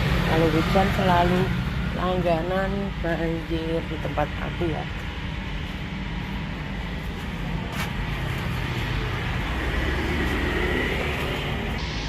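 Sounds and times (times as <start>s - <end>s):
traffic passing: 0.0s - 12.0s
vehicle engine running: 0.0s - 12.0s.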